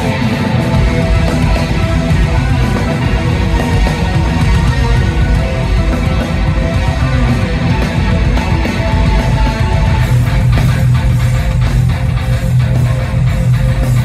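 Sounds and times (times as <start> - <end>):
drums: 0.0 - 14.0
electric guitar: 0.0 - 14.0
heavy bass line: 0.0 - 14.0
keyboards: 0.0 - 14.0
live metal band playing: 0.0 - 14.0.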